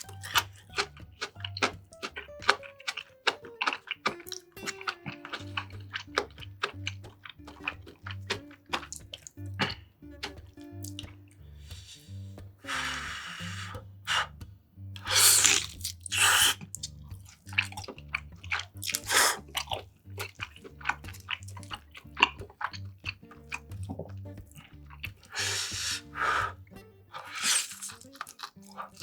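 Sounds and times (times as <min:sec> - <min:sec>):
crunchy chewing and biting: 0:00.0 - 0:14.4, 0:15.0 - 0:29.0
quiet background music: 0:00.0 - 0:29.0.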